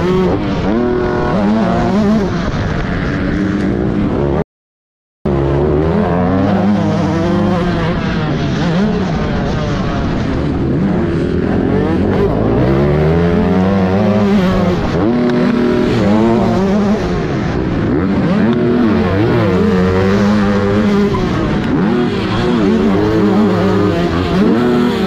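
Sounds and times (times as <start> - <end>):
motocross engine revving: 0.0 - 4.4, 5.3 - 25.0.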